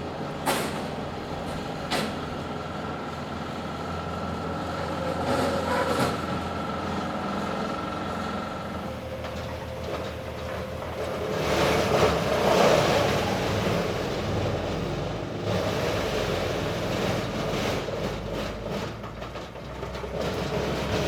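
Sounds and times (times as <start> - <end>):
brush chipper running: 0.0 - 21.0.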